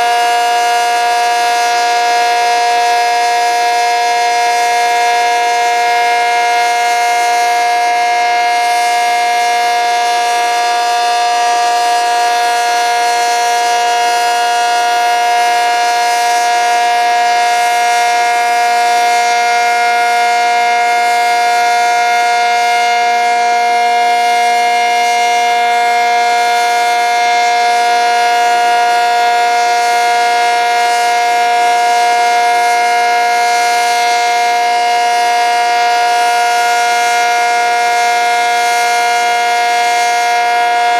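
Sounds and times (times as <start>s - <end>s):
warning siren steady chord: 0.0s - 40.9s.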